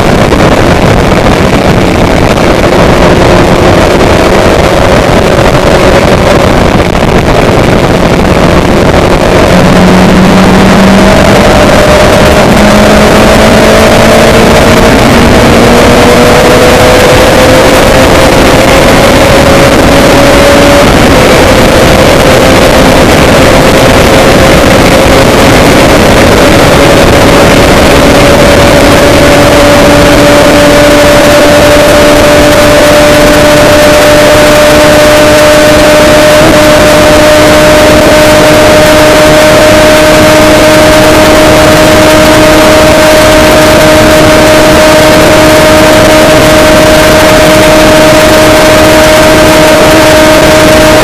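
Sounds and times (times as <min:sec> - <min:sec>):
vehicle motor hum: 0:00.0 - 0:51.0.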